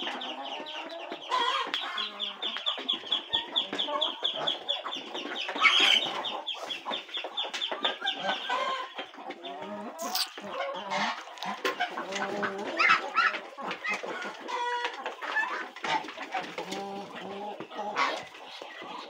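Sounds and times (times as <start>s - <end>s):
chickens clucking and calling: 0.0s - 19.0s.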